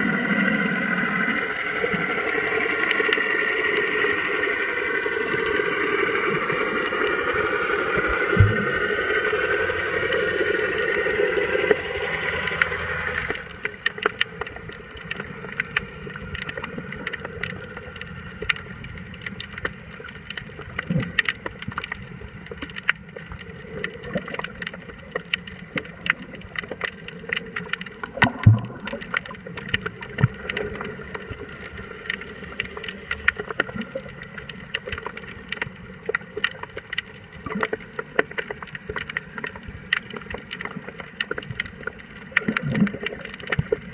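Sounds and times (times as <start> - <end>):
muffled underwater hum: 0.0 - 43.9.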